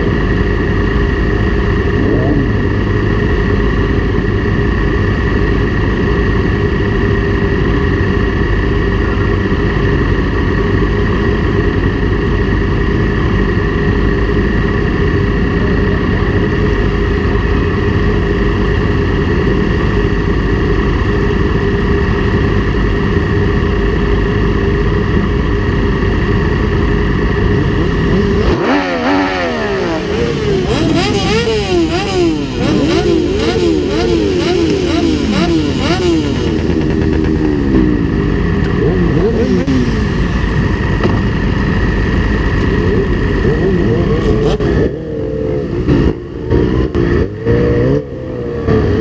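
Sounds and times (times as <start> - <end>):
motorcycle engines idling: 0.0 - 49.0.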